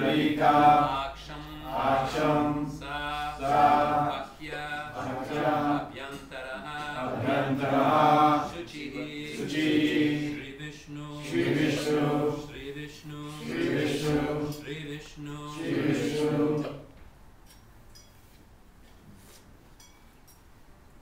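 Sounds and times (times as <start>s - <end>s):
men chanting in long held notes: 0.0s - 16.9s.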